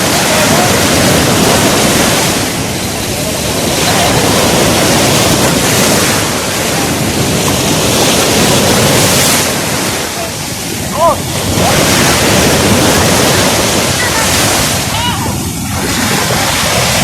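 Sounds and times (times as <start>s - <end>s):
sea waves washing on shore: 0.0s - 17.0s
wind buffeting microphone: 0.0s - 17.0s.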